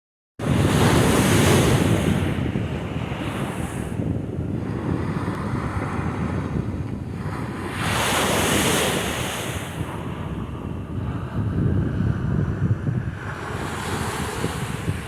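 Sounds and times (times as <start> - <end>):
ocean surf breaking: 0.4 - 15.0
wind rumbling on microphone: 0.4 - 15.0.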